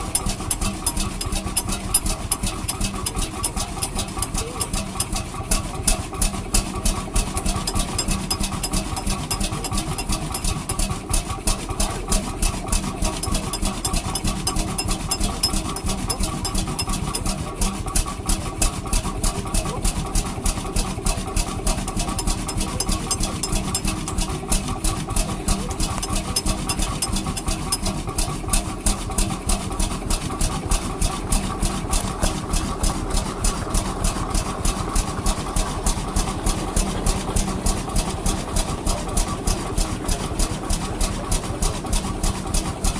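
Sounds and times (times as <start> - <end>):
engine idling slowly: 0.0 - 42.9.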